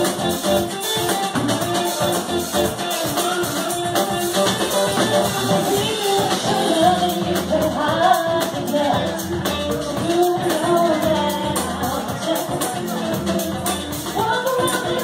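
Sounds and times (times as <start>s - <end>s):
drum kit with cymbal beat: 0.0s - 15.0s
electric guitar: 0.0s - 15.0s
electric keyboard: 0.0s - 15.0s
woman singing: 2.7s - 15.0s.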